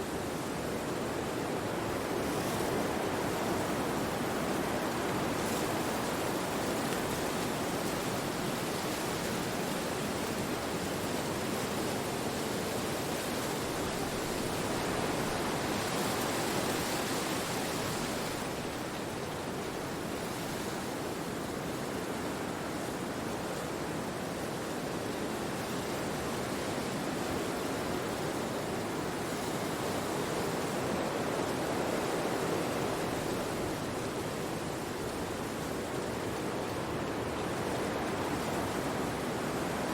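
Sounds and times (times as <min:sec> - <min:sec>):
wind through trees: 0:00.0 - 0:39.9.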